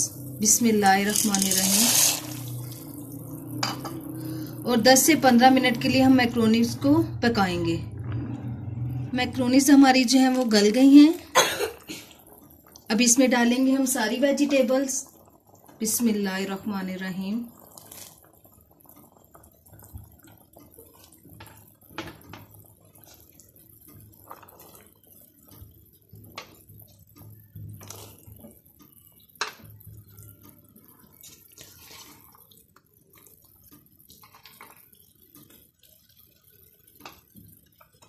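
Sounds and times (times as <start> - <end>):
broth bubbling in a pot: 0.0 - 38.0.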